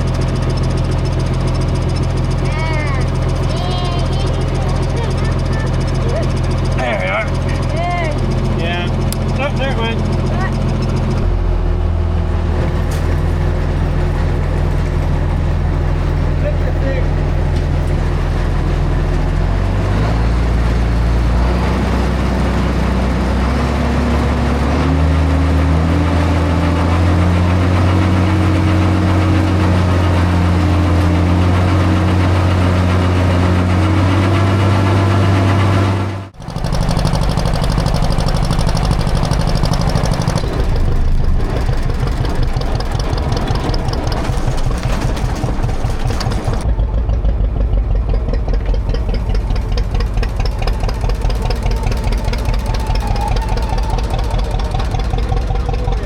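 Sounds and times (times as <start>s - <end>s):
low steady engine beat: 0.0s - 56.0s
tractor engine speeding up: 0.0s - 56.0s.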